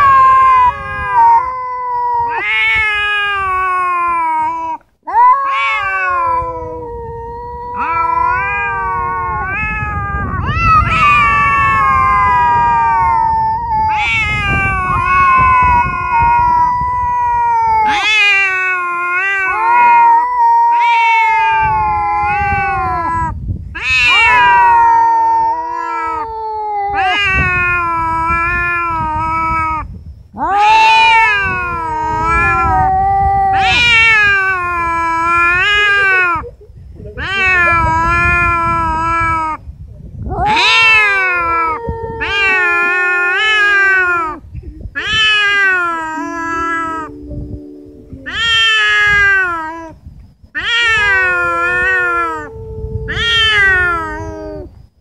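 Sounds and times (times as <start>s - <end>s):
cats yowling: 0.0s - 36.6s, 37.2s - 39.6s, 40.2s - 47.2s, 48.2s - 54.8s.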